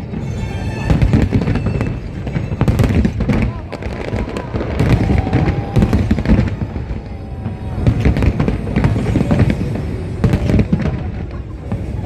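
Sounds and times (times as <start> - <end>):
continuous low rumble: 0.0 - 12.0
faint music: 0.0 - 12.0
fireworks bangs and crackles: 0.0 - 12.0.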